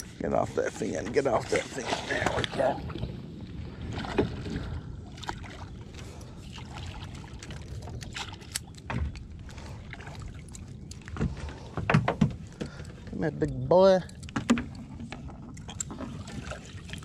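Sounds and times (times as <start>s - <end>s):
water splashing at boat side: 1.0s - 12.7s, 14.4s - 17.0s.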